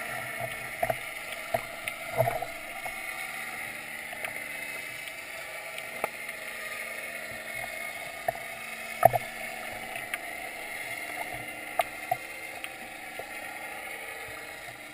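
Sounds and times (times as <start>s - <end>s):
sharp underwater clicks: 0.4s - 3.4s, 4.0s - 14.8s.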